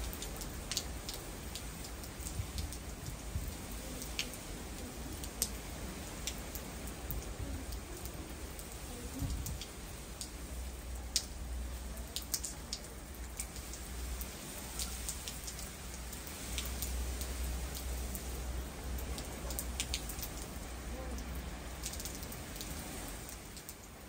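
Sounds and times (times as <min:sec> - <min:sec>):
light rain hiss: 0:00.0 - 0:24.0
raindrops ticking close by: 0:00.0 - 0:24.0.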